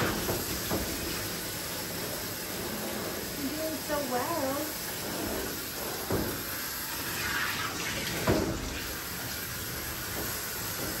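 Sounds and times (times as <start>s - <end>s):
hose spraying water: 0.0s - 11.0s.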